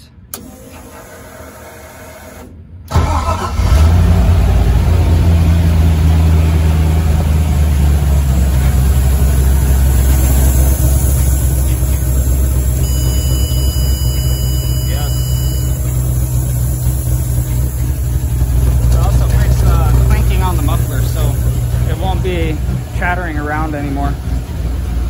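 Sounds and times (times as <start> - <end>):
car engine starting and idling: 0.0 - 25.0.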